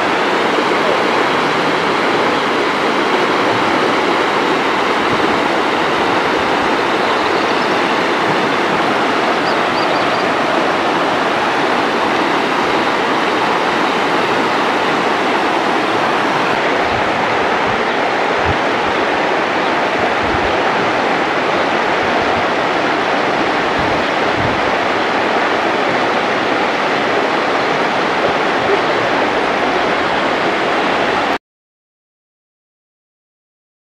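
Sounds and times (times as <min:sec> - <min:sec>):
river water rushing: 0:00.0 - 0:31.4.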